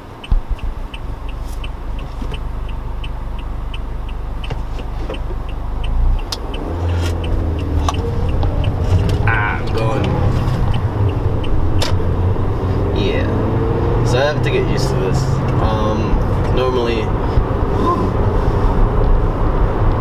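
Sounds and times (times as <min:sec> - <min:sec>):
car engine idling: 0:00.0 - 0:20.0
turn signal ticking: 0:00.0 - 0:20.0.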